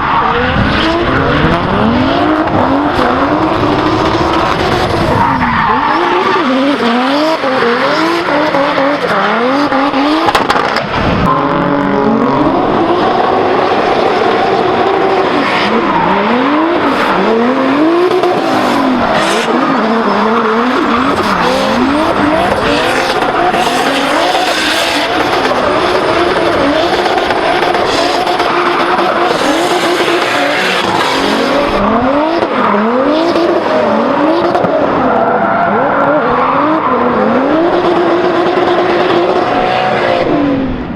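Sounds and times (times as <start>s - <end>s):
car engine revving: 0.0s - 40.9s
tyres skidding and squealing: 0.0s - 40.9s.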